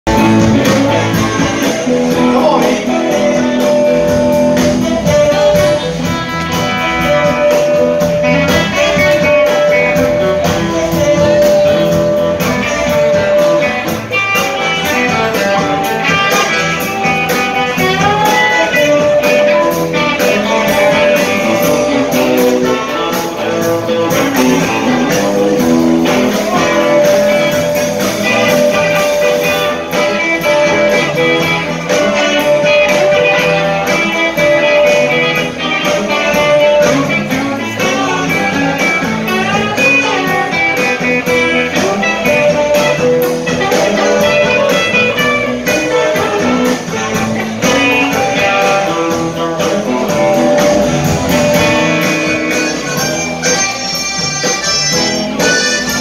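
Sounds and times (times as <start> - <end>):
drums: 0.0 - 56.0
electric guitars: 0.0 - 56.0
accordion: 0.1 - 56.0
saxophone: 0.1 - 56.0.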